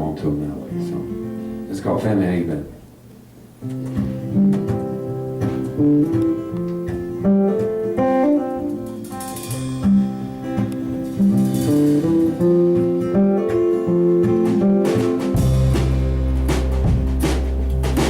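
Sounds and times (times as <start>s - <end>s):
acoustic guitar picking and strumming: 0.0s - 2.3s, 3.6s - 18.0s.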